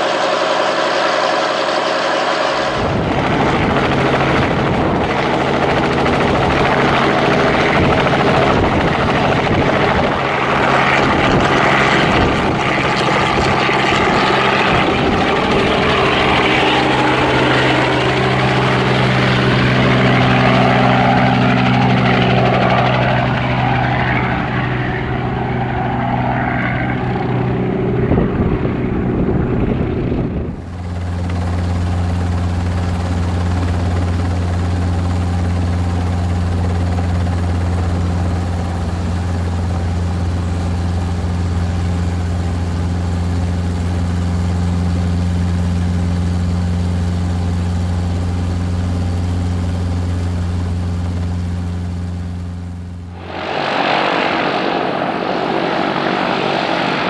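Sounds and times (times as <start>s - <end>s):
helicopter cabin drone: 0.0s - 57.0s
helicopter taking off: 0.0s - 57.0s.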